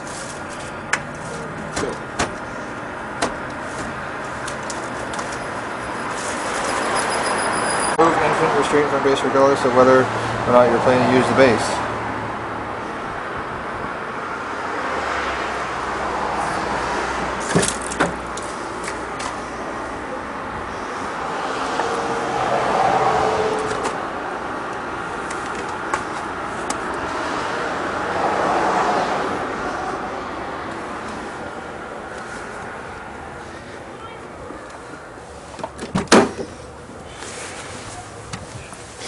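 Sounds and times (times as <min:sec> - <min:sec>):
road traffic noise: 0:00.0 - 0:39.0
vehicles passing: 0:00.0 - 0:39.0.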